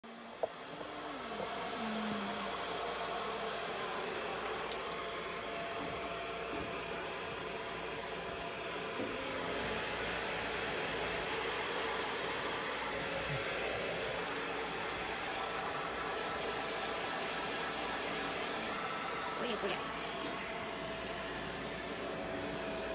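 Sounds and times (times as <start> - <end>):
hair dryer blowing: 0.0 - 22.9.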